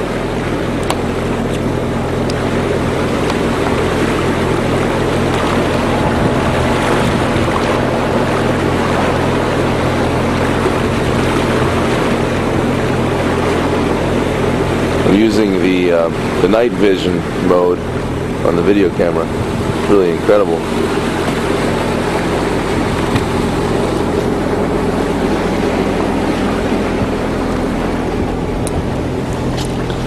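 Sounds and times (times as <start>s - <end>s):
boat engine droning: 0.0s - 30.0s
water rushing past hulls: 0.0s - 30.0s.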